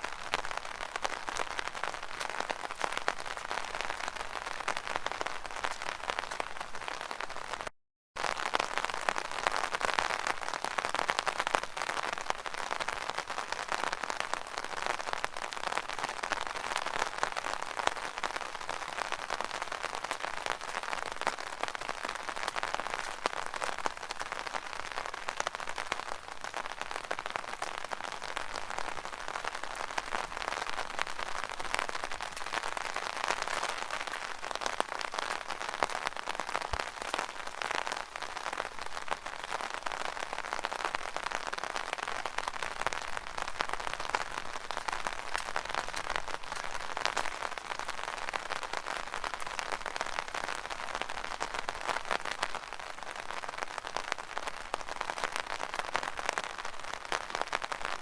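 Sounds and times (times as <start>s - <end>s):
rain pattering on umbrella: 0.0s - 58.0s.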